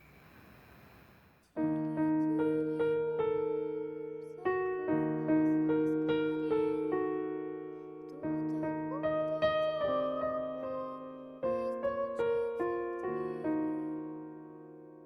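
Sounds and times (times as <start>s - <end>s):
slow keyboard chords: 1.6s - 15.0s.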